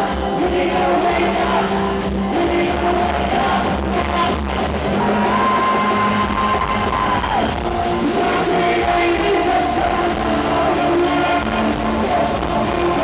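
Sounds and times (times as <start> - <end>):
acoustic rock band playing live: 0.0 - 13.0.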